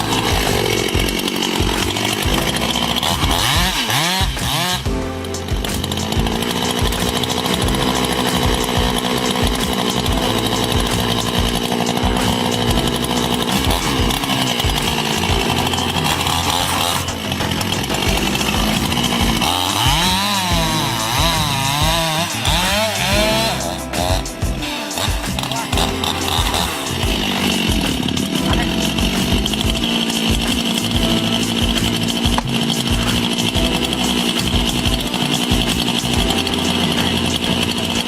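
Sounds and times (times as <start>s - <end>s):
chainsaw cutting tree: 0.0s - 38.0s.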